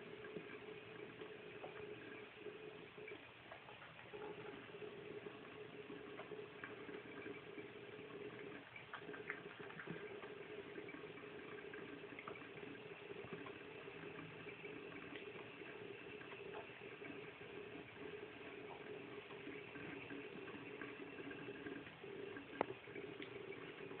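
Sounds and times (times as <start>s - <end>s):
cat drinking and splashing: 0.0s - 24.0s
tap water running into sink: 0.0s - 24.0s.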